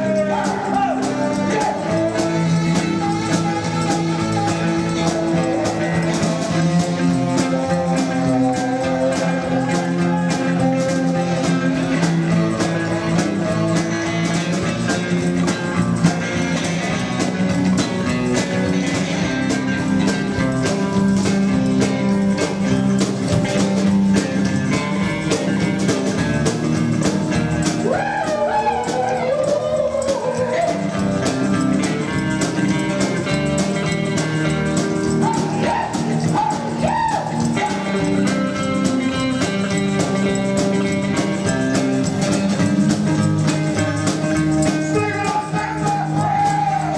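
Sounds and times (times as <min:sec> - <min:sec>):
rockabilly band playing live: 0:00.0 - 0:46.9.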